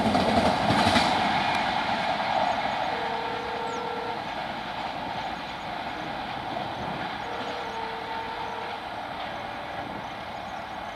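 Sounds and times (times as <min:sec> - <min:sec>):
train wheels rumbling on rails: 0:00.0 - 0:10.9.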